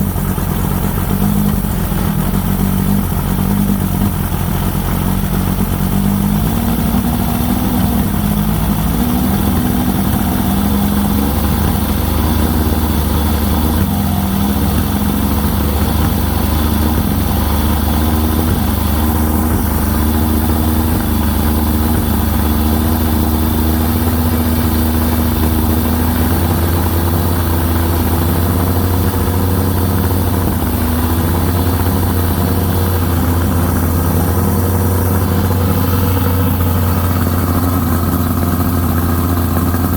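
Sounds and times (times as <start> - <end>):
engine idling loudly: 0.0 - 39.9.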